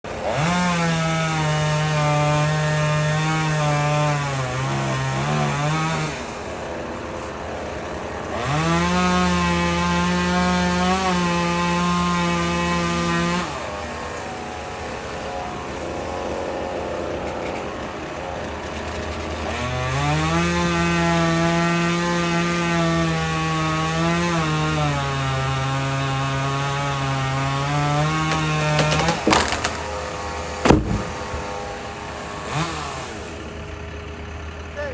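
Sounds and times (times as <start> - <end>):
chainsaw revving: 0.1 - 34.8.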